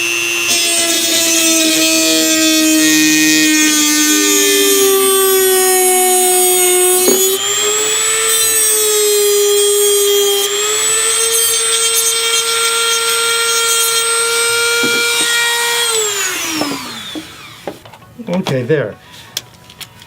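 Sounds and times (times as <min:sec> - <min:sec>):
rotary tool whining while cutting: 0:00.0 - 0:17.8.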